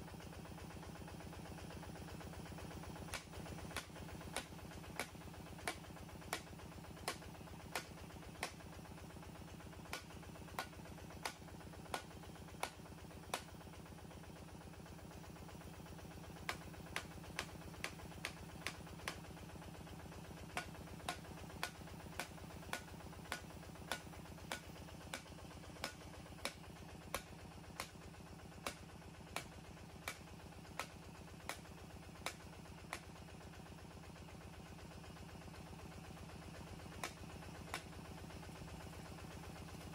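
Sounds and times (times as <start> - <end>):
sharp repeating clicks: 1.0 - 39.9
drilling rig engine running: 1.1 - 33.2.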